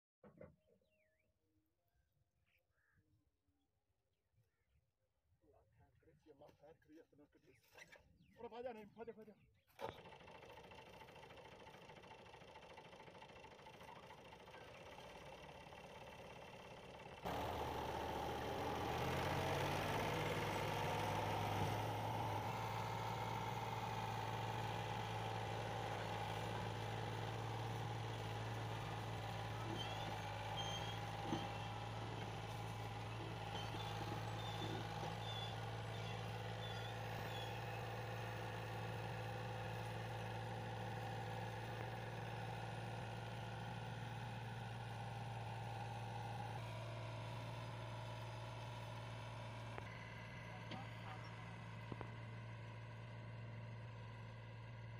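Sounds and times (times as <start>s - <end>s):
tractor diesel engine labouring: 9.8s - 54.9s.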